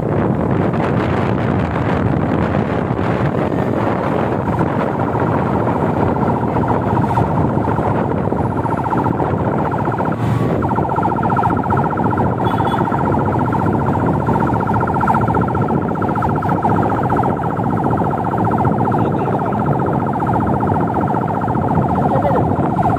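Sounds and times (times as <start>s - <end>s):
motorcycle and car traffic: 0.0s - 22.9s
wind rumble on microphone: 0.0s - 22.9s
siren wavering and warbling: 0.8s - 22.9s.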